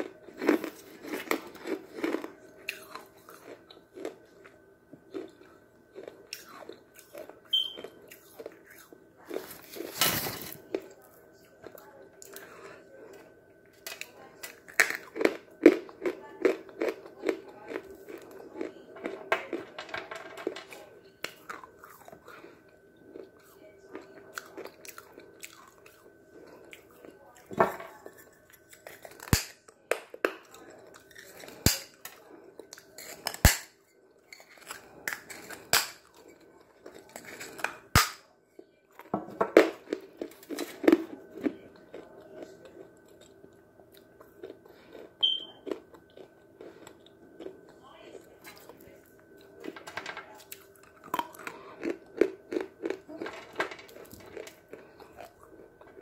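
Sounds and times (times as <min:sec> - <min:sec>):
chewing gritty pieces: 0:00.0 - 0:19.8, 0:20.4 - 0:56.0.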